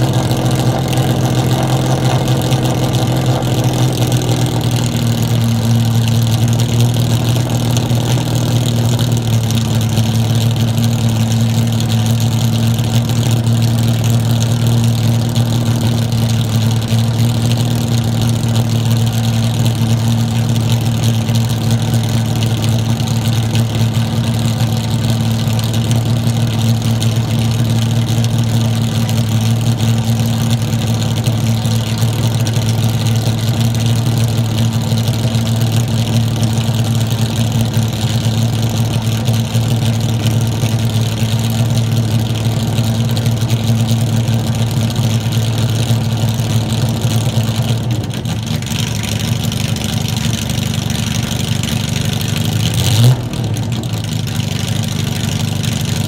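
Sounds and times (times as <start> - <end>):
race car engine idling: 0.0 - 56.0.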